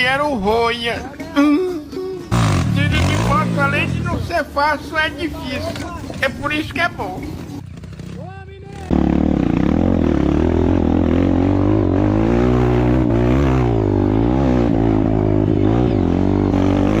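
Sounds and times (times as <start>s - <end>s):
motorcycle engine revving: 2.2s - 17.0s.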